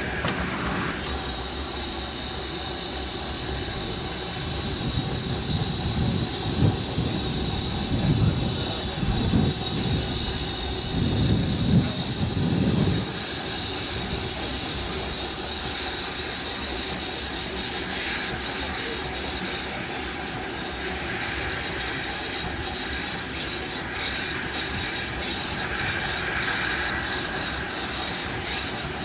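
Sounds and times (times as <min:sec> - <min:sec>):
steam train running past: 0:00.0 - 0:29.0.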